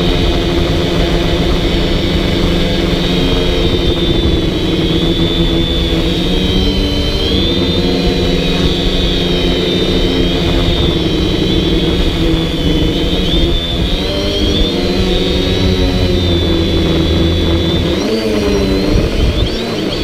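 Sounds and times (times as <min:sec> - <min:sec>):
drone motors whining: 0:00.0 - 0:20.0
steady low rumble: 0:00.0 - 0:20.0.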